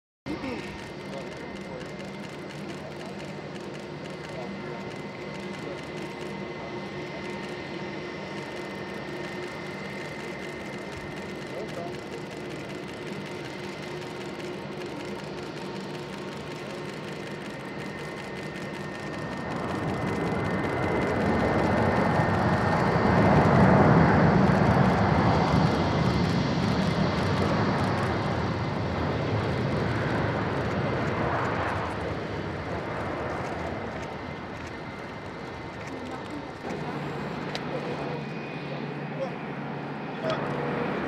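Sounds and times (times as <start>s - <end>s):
jet engine noise: 0.3s - 41.0s.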